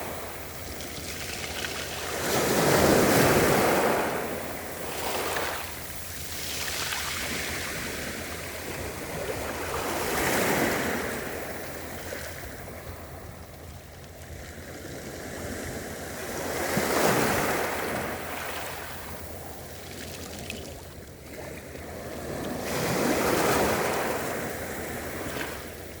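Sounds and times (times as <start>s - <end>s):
sea waves breaking on a beach: 0.0s - 26.0s.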